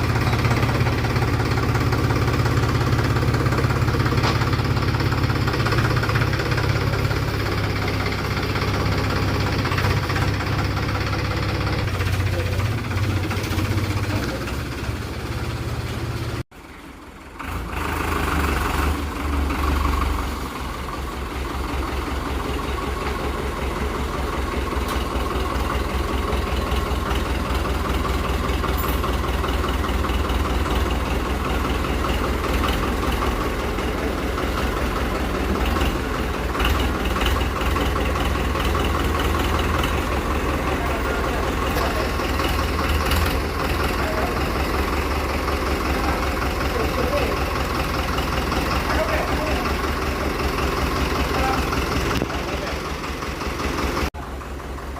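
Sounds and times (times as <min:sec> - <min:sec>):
tractor diesel engine idling: 0:00.0 - 0:54.9.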